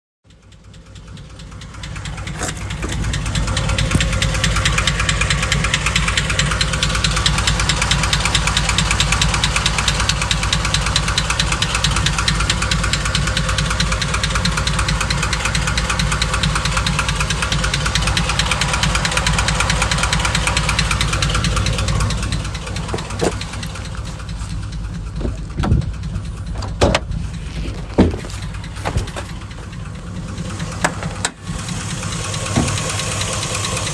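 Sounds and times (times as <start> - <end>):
engine running with ticking knock: 0.2 - 33.9.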